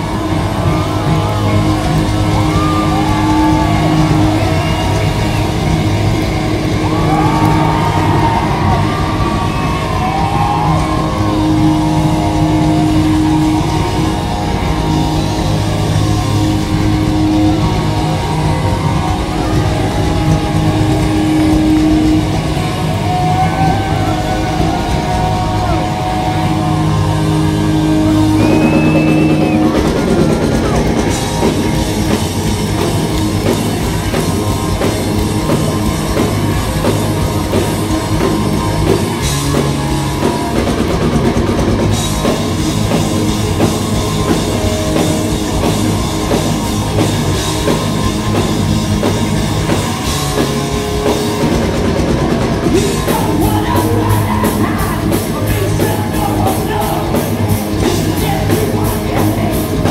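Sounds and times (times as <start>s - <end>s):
distorted electric guitars: 0.0s - 59.9s
drum kit: 0.0s - 59.9s.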